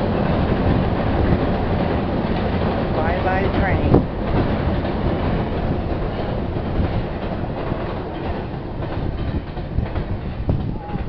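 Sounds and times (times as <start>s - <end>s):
train rolling over steel trestle: 0.0s - 11.0s.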